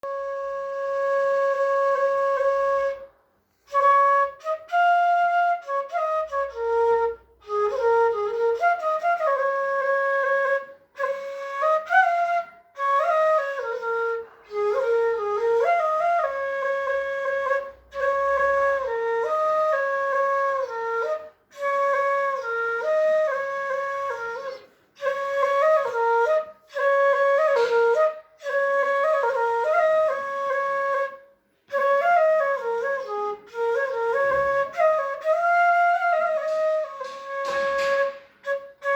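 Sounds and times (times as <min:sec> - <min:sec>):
solo flute melody: 0:00.0 - 0:38.9.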